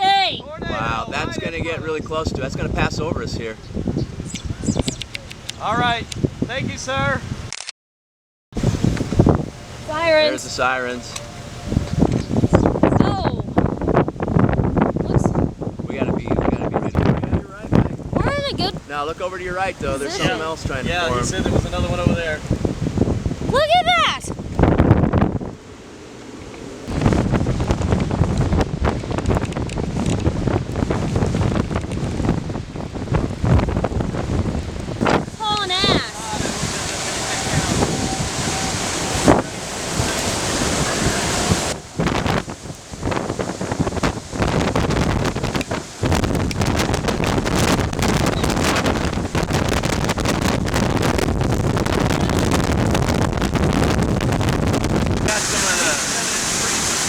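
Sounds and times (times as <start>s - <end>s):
storm wind buffeting microphone: 0.0s - 7.5s, 8.6s - 57.0s.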